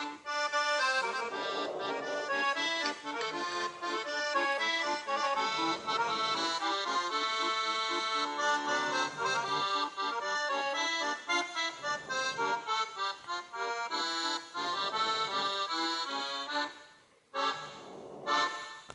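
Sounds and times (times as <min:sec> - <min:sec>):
background music melody: 0:00.0 - 0:18.0.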